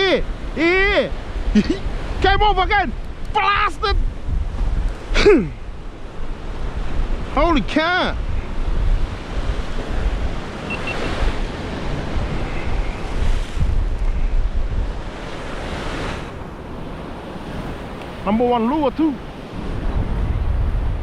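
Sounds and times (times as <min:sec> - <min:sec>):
wind buffeting microphone: 0:00.0 - 0:21.0
waves washing over rocks: 0:04.2 - 0:21.0.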